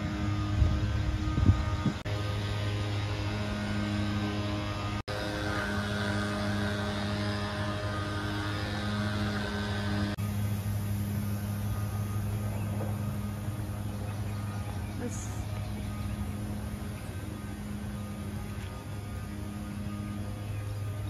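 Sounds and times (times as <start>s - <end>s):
low hum of held tones: 0.0s - 21.0s.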